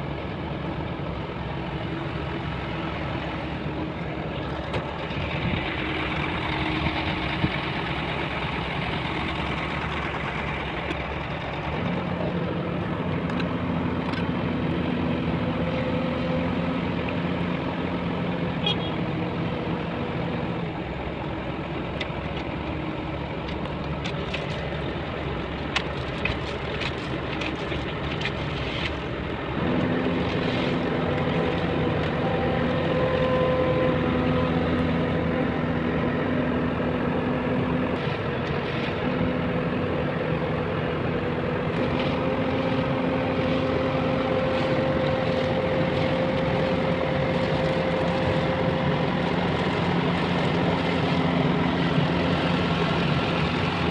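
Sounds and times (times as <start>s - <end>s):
heavy vehicle engine running: 0.0s - 53.9s.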